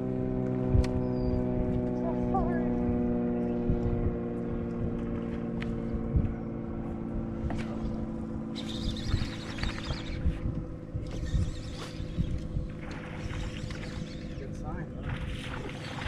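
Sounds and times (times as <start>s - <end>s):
outboard motor running: 0.0s - 16.0s
wind buffeting microphone: 0.0s - 16.0s.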